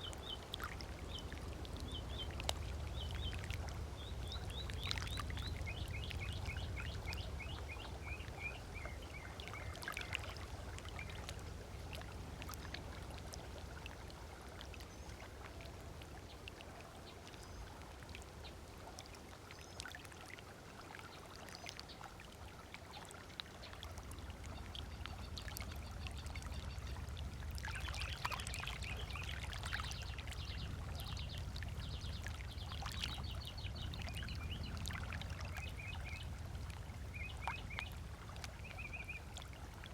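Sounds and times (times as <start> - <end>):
low steady rumble: 0.0 - 19.0, 23.7 - 39.9
small waves lapping: 0.0 - 39.9.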